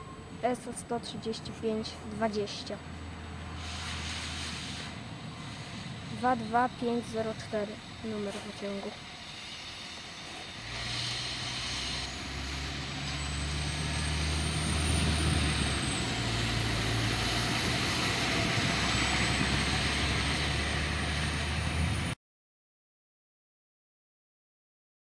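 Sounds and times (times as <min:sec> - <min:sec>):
diesel train engine humming: 0:00.0 - 0:22.2.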